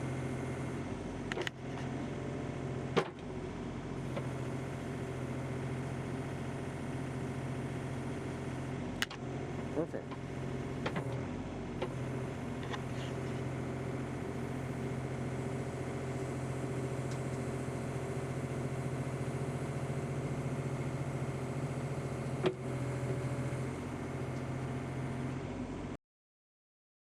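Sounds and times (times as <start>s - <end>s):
diesel engine idling: 0.0s - 25.4s.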